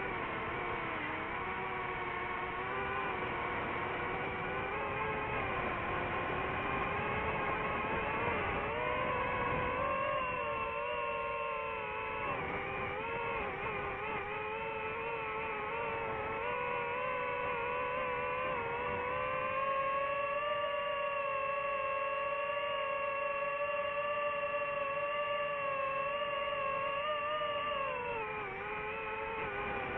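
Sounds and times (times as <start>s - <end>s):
drone propellers whining: 0.0s - 29.9s.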